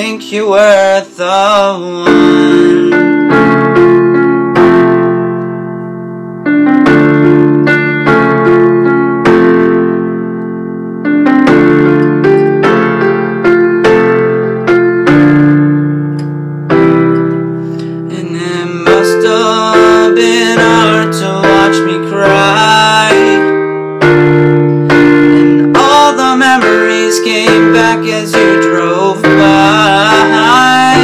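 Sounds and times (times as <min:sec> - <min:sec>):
piano chords: 0:00.0 - 0:31.0.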